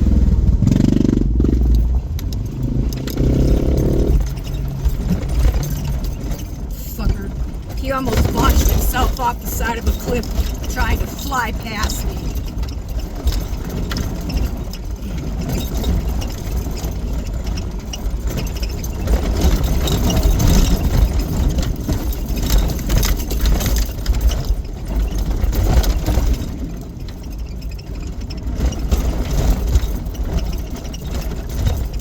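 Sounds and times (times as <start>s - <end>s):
rattles and knocks over bumps: 0.0s - 32.0s
vehicle engine and road rumble: 0.0s - 32.0s.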